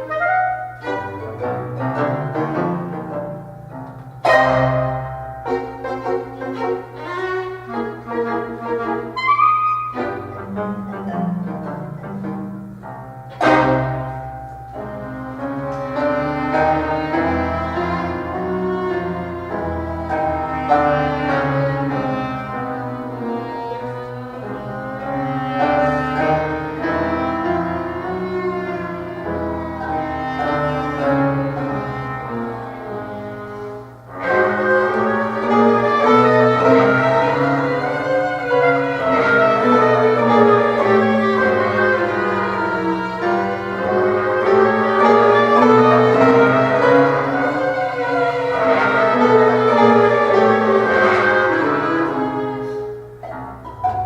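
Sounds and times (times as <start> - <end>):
chamber ensemble playing: 0.0 - 54.0.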